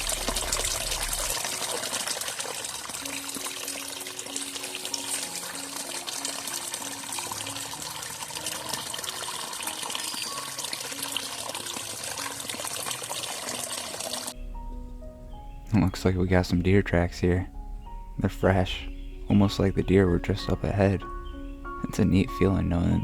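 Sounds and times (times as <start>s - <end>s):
soft background music: 0.0s - 23.0s
trickling water: 0.0s - 23.0s.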